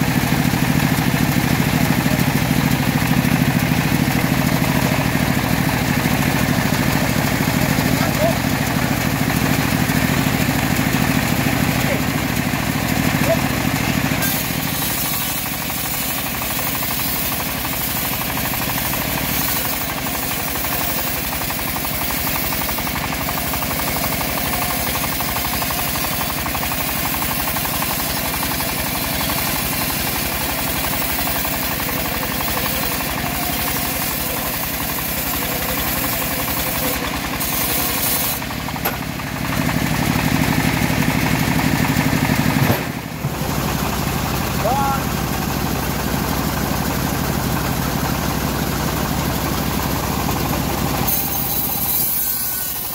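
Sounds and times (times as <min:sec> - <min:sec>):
saw blade cutting log: 0:00.0 - 0:43.4, 0:50.1 - 0:52.9
engine running under load: 0:00.0 - 0:52.9.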